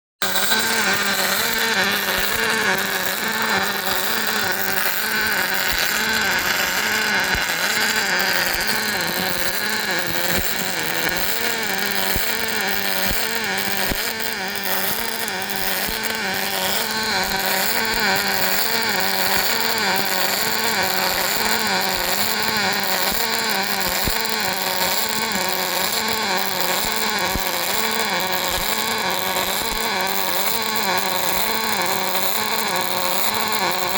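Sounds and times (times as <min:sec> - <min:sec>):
welder electrical hum: 0:00.2 - 0:33.9
welding crackles: 0:00.2 - 0:33.9
welding hiss: 0:00.2 - 0:33.9.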